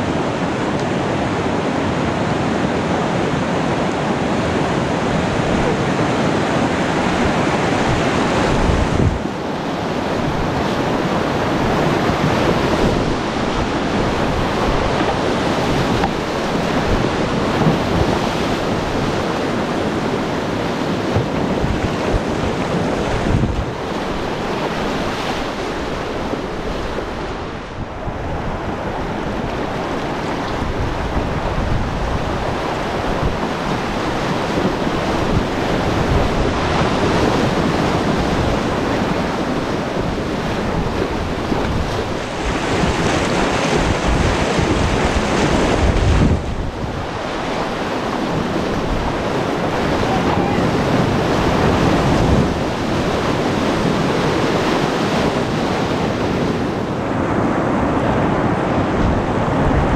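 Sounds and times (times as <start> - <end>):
whitewater rapids rushing: 0.0 - 59.9
wind buffeting microphone: 1.5 - 59.9.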